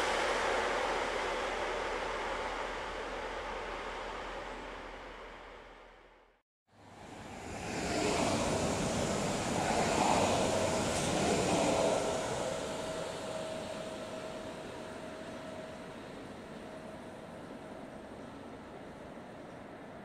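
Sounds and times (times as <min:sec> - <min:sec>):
steady whine: 0:00.0 - 0:06.4, 0:07.1 - 0:19.6
train passing: 0:00.0 - 0:20.0.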